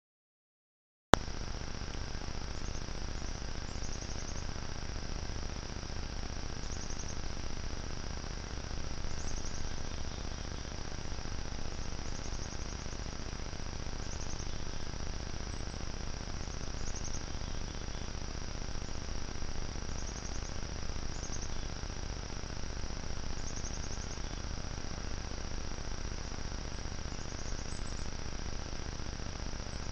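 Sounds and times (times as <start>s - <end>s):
steady hiss: 1.2s - 29.9s.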